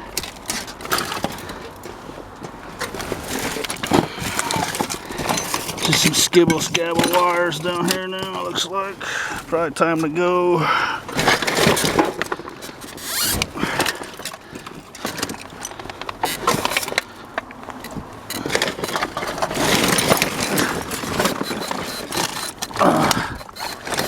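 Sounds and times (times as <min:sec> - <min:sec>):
debris clattering in a dumpster: 0:00.0 - 0:02.0, 0:02.7 - 0:08.8, 0:11.0 - 0:17.2, 0:17.8 - 0:24.0.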